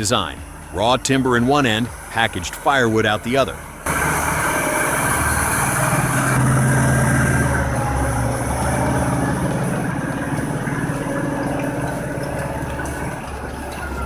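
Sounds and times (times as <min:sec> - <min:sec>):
machine engine humming: 0:00.0 - 0:14.0.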